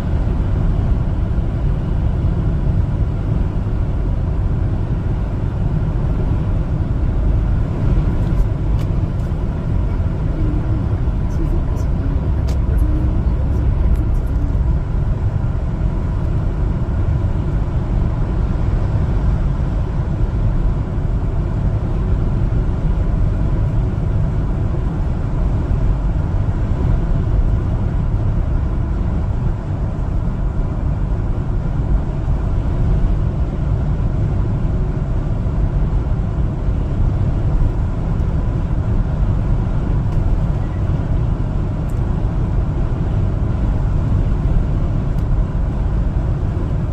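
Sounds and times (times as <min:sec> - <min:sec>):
truck engine and road rumble: 0:00.0 - 0:46.9.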